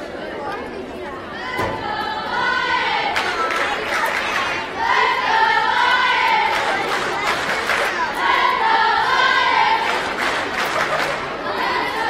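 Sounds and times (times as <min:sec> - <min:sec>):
young voices chanting a cheer: 0:01.1 - 0:12.0.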